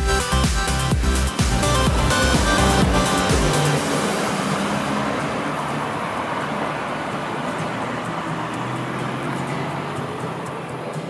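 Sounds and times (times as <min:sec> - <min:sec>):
rushing road noise: 0:00.0 - 0:11.0
cars driving past: 0:00.1 - 0:11.0.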